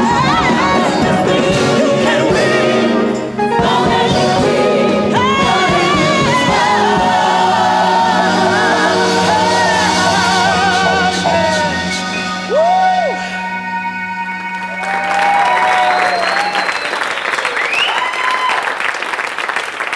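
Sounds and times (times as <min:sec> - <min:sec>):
gospel choir singing: 0:00.0 - 0:16.6
backing band playing: 0:00.0 - 0:16.8.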